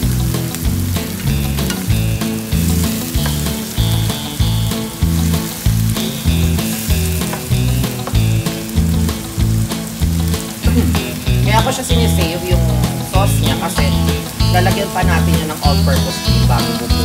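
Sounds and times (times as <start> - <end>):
background music with beat: 0.0 - 17.0
meat sizzling in a pan: 0.0 - 17.0.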